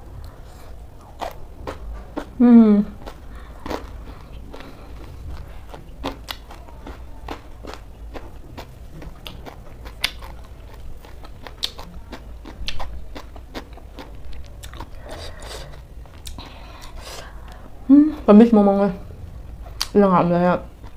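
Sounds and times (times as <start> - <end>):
crunchy chewing: 0.1 - 17.7.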